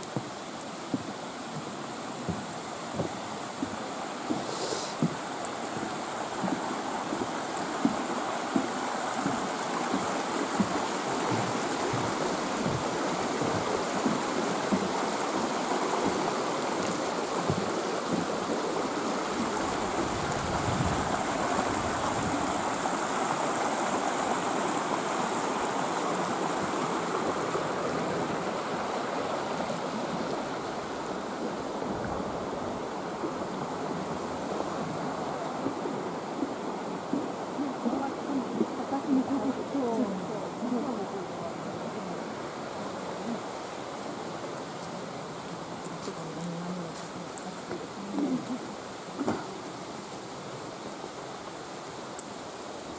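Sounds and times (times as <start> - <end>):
stream rushing over rocks: 0.0 - 52.9.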